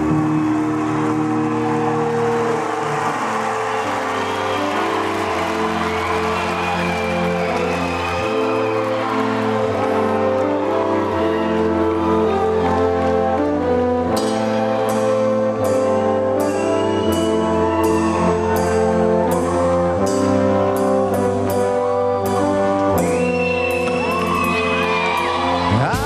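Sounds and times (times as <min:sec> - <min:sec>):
keyboard brass-like chords: 0:00.0 - 0:26.0.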